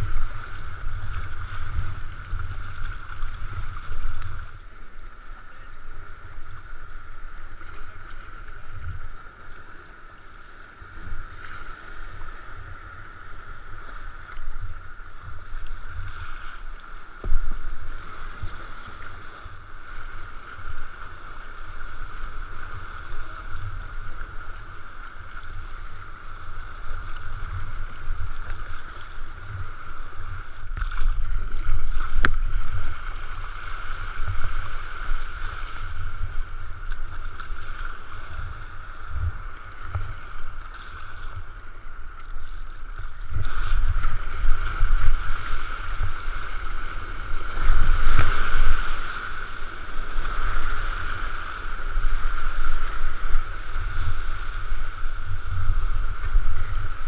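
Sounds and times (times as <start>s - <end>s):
wind on microphone: 0.0s - 9.8s, 10.5s - 57.0s
water splashing around kayak: 0.0s - 57.0s.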